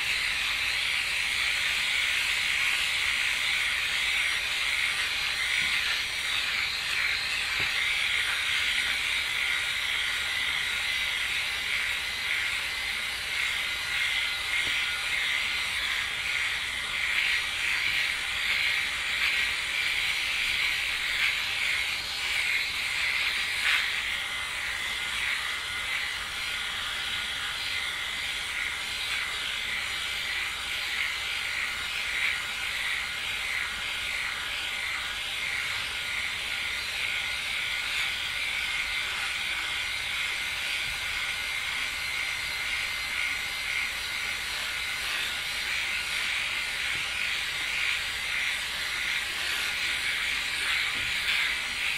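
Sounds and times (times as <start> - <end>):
electric shaver buzzing: 0.0 - 51.9.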